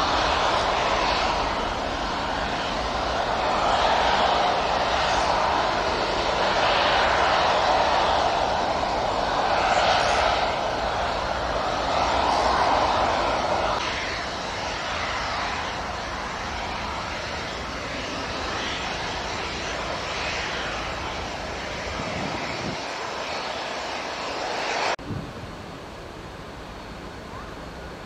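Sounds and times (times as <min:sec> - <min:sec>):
jet engines taxiing: 0:00.0 - 0:28.0.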